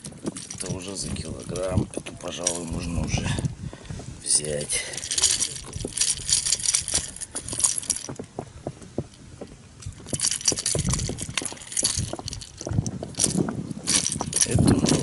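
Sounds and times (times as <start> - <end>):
metal hooks clicking and jingling: 0.0 - 3.5, 4.3 - 8.2, 9.8 - 15.0.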